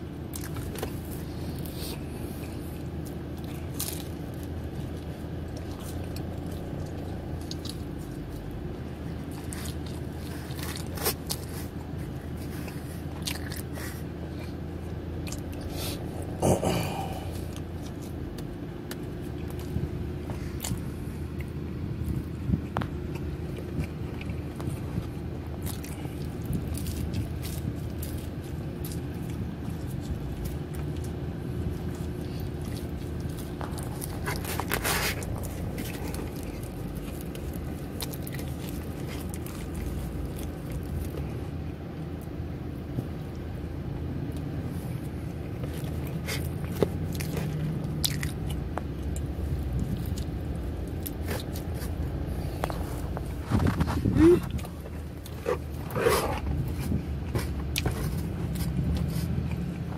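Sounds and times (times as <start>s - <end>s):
car cabin hum: 0.0s - 59.9s
person chewing pizza: 0.0s - 59.9s.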